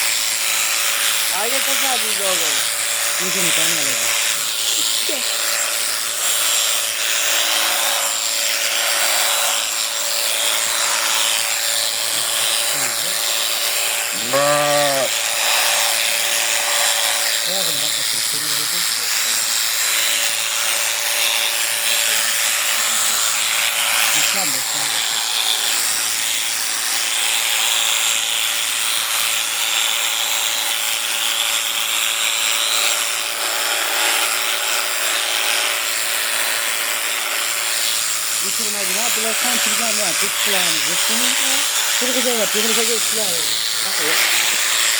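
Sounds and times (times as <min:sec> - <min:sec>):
cutter rasping through fleece: 0:00.0 - 0:44.9
electric clippers humming: 0:00.0 - 0:44.9
electric shears whining: 0:00.0 - 0:44.9.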